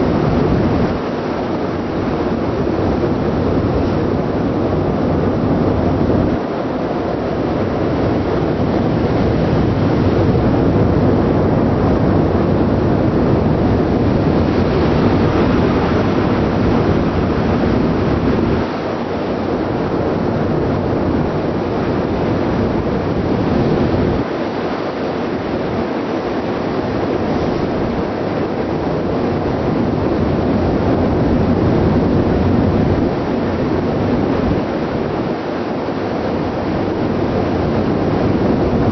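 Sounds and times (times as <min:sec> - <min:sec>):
sea: 0:00.0 - 0:38.9
ship engine rumble: 0:00.0 - 0:38.9
wind buffeting microphone: 0:00.0 - 0:38.9.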